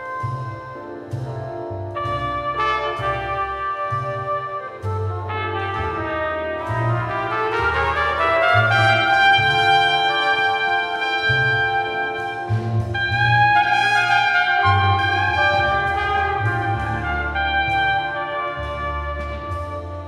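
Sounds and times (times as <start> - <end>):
plucked double bass: 0.0 - 20.0
trumpet long held notes: 2.0 - 20.0.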